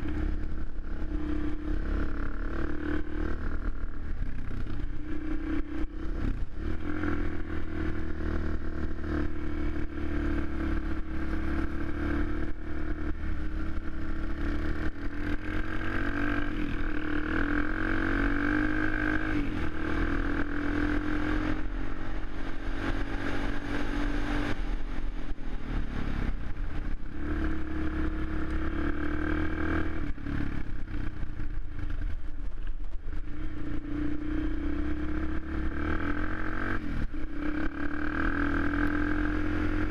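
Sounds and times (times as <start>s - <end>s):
quad bike engine revving: 1.4s - 24.6s, 27.1s - 31.1s, 33.6s - 39.9s.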